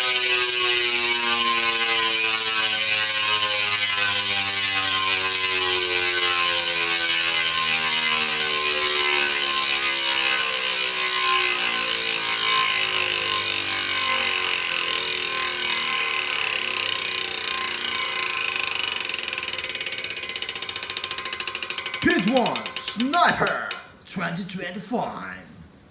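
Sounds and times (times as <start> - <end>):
bicycle freehub ratcheting: 0.0 - 24.0.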